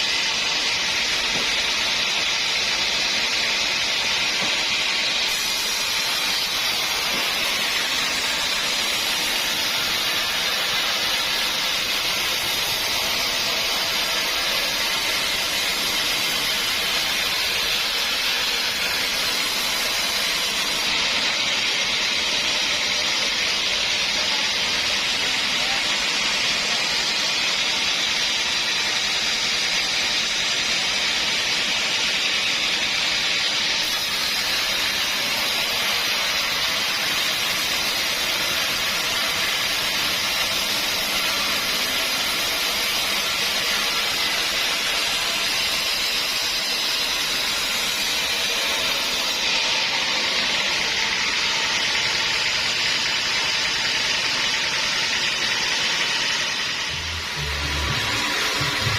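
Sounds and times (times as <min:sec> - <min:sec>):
saw cutting wood: 0:00.0 - 0:58.9.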